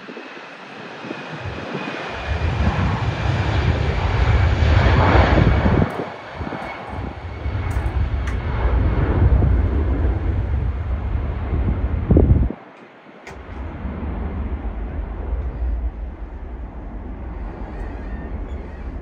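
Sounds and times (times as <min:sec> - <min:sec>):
jet engines roaring at takeoff: 0:00.0 - 0:19.0
wind rumbling on microphone: 0:00.0 - 0:19.0.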